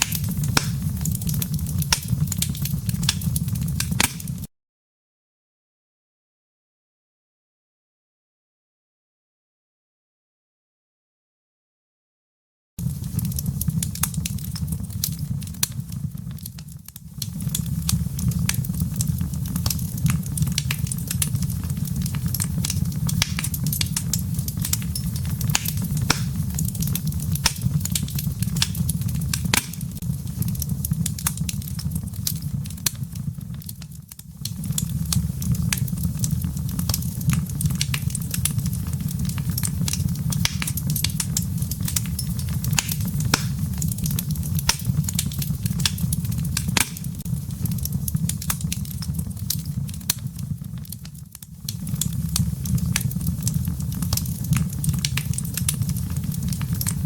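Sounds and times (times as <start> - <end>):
wood fire crackling and popping: 0.0 - 4.5, 12.8 - 57.0.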